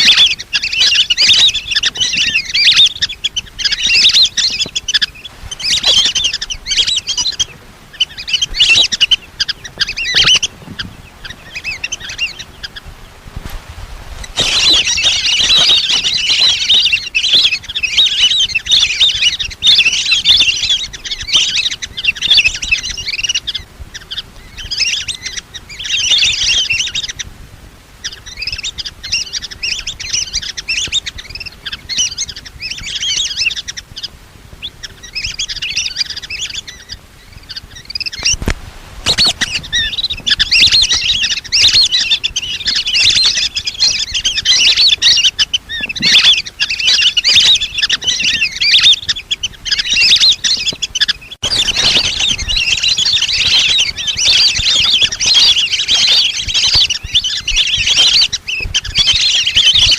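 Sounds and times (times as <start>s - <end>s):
ducks whistling chirps: 0.0s - 13.1s, 14.2s - 27.3s, 28.0s - 59.9s.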